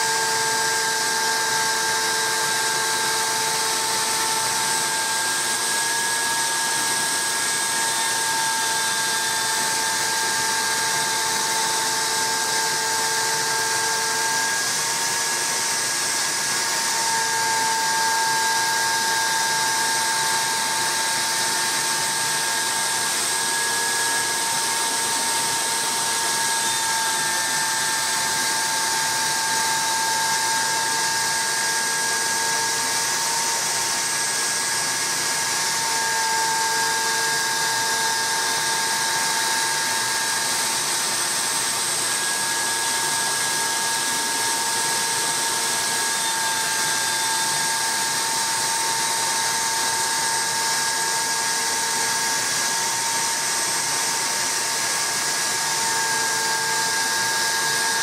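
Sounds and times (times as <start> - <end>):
hiss of cutting wood: 0.0 - 58.0
router spindle whining: 0.0 - 58.0.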